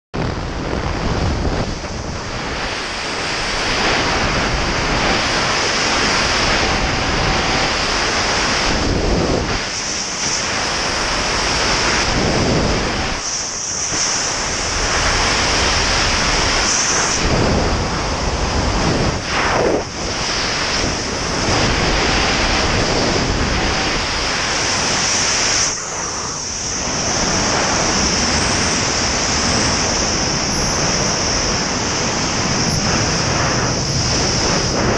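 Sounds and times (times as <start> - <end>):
wind roaring over microphone: 0.2 - 34.9.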